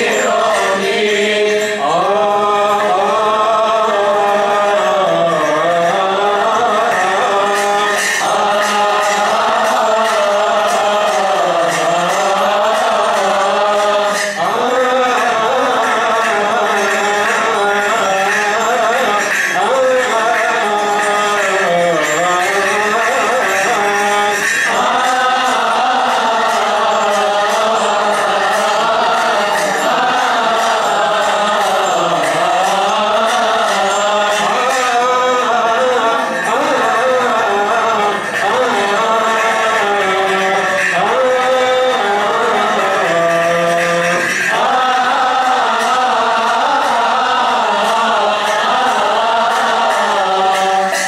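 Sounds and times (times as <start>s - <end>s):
liturgical chanting: 0.0s - 51.0s.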